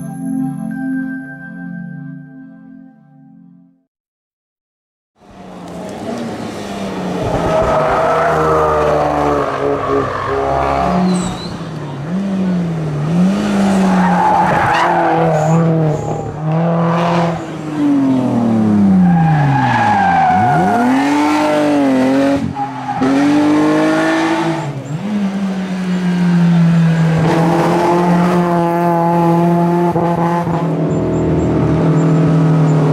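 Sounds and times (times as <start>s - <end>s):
race car engine revving: 5.2s - 32.9s.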